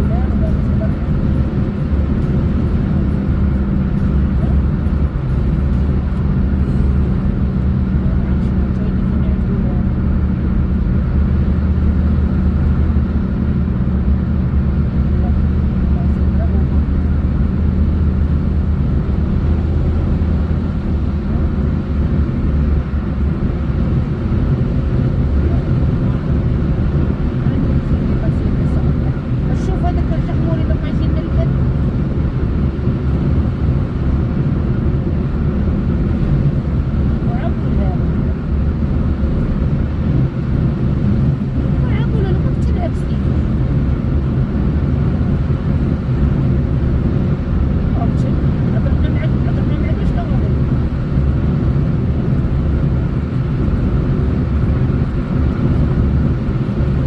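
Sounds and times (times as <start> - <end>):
road vehicle engine and tyres: 0.0 - 57.0.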